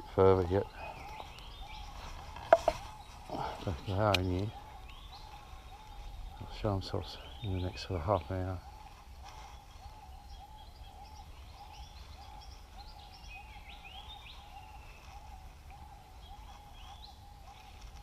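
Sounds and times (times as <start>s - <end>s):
low repeated bird call: 0.0s - 18.0s.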